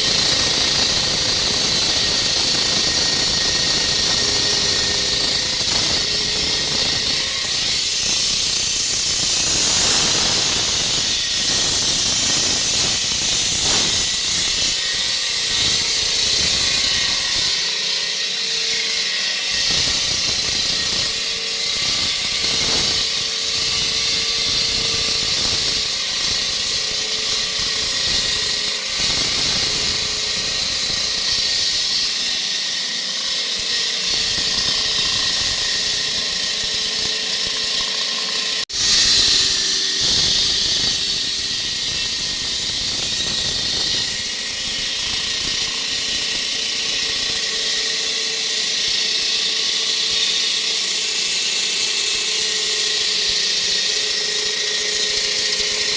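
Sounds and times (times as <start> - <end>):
power saw cutting concrete: 0.0 - 55.9.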